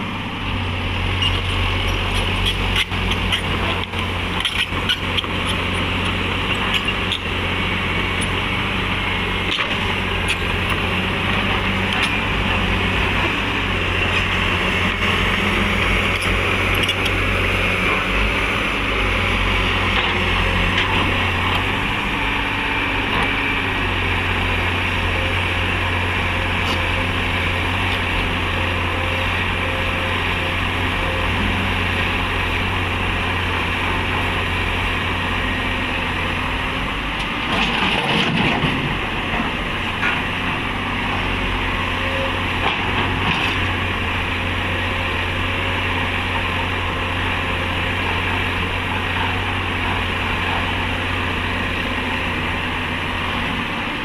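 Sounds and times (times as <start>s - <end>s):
heavy diesel engines running: 0.0s - 54.0s.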